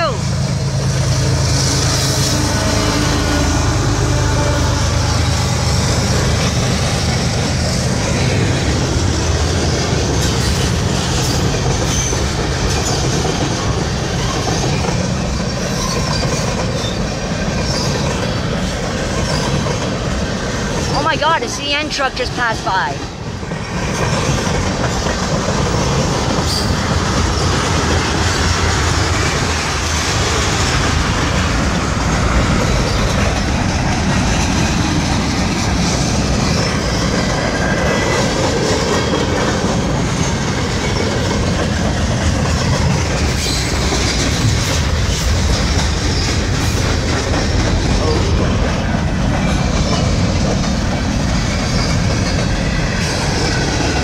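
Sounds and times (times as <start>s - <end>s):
steel wheels rumbling on rail: 0.0s - 54.0s
wheels clicking over rail joints: 3.8s - 21.0s, 23.2s - 54.0s.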